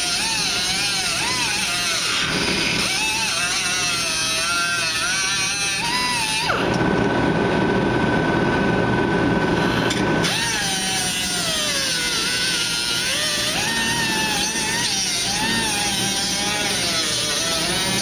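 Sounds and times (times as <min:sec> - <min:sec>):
cutoff wheel grinding sheet steel: 0:00.0 - 0:06.8, 0:09.6 - 0:18.0.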